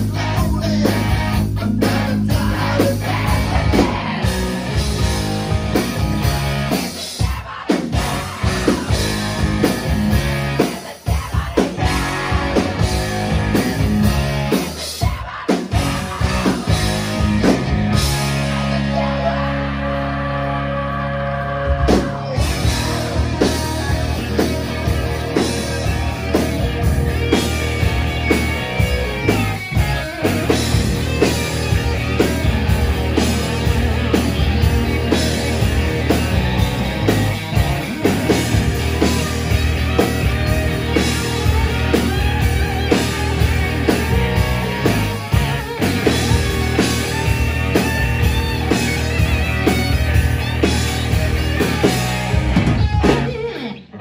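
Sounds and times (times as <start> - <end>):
hard rock band playing live: 0.0 - 54.0.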